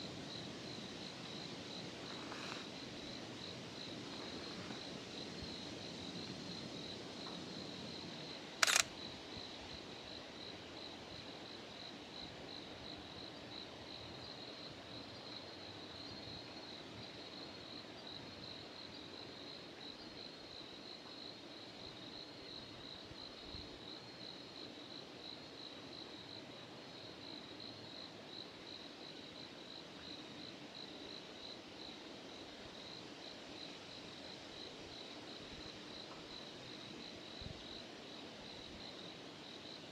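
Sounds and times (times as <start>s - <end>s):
crickets chirping: 0.0s - 39.9s
light background hiss: 0.1s - 39.9s.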